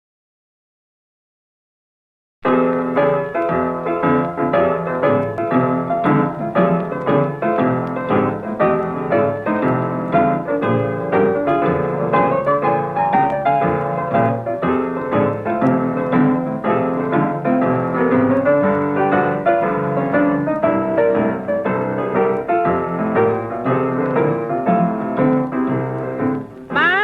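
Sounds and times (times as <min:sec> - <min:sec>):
old blues piano recording: 0:02.4 - 0:27.0.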